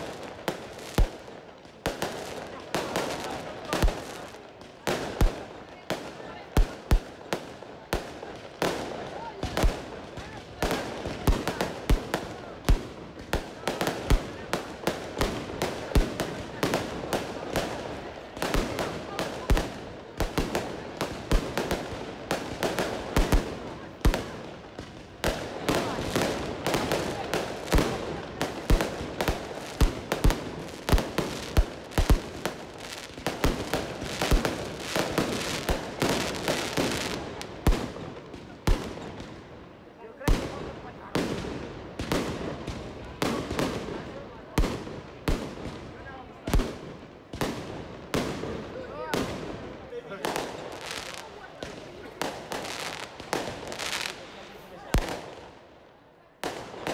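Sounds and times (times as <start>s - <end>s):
fireworks bursting: 0.0s - 39.5s, 40.1s - 55.6s, 56.4s - 56.9s.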